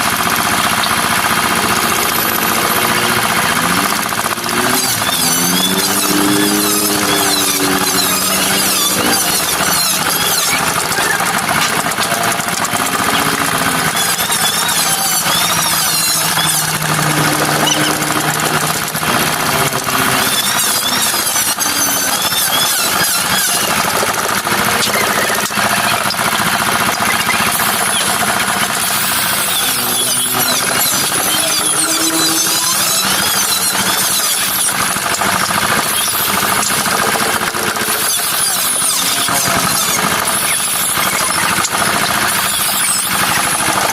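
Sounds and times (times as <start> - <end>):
power carving tool squealing: 0.0 - 43.9.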